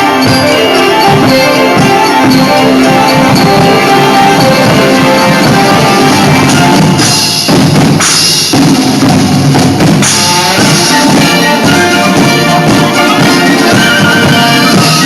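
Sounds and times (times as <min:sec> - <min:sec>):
band music: 0:00.0 - 0:15.0
snare and bass drums beat: 0:00.0 - 0:15.0.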